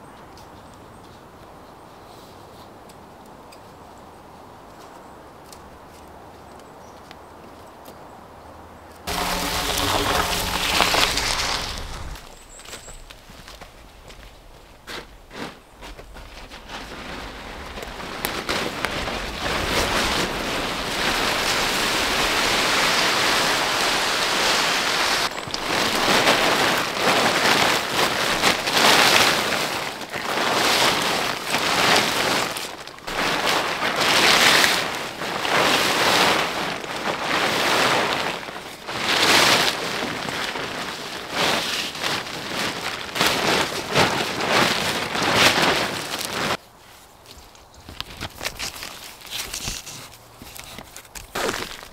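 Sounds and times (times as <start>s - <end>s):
plastic tarpaulin rustling: 9.1s - 47.0s, 47.9s - 51.9s.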